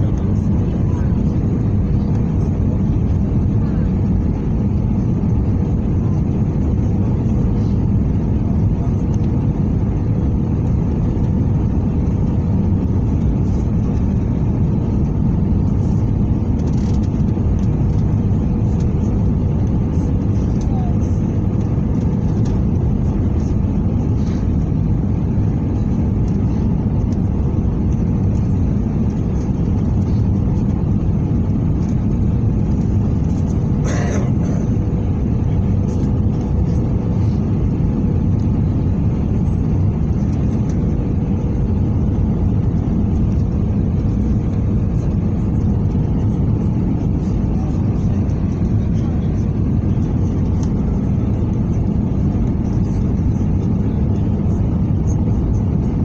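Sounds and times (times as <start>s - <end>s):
airliner cabin engine and airflow noise: 0.0s - 56.0s.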